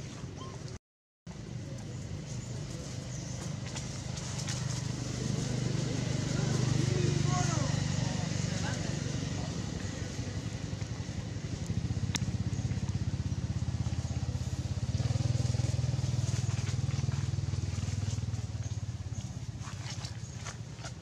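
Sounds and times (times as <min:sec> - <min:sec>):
engine running with pulsing note: 0:01.3 - 0:21.0.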